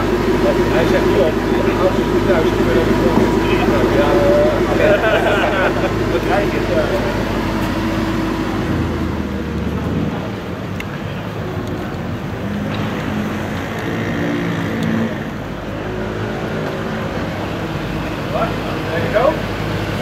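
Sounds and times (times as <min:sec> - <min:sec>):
car engine idling: 0:00.0 - 0:20.0
car pulling away: 0:00.0 - 0:20.0
street traffic: 0:00.0 - 0:20.0.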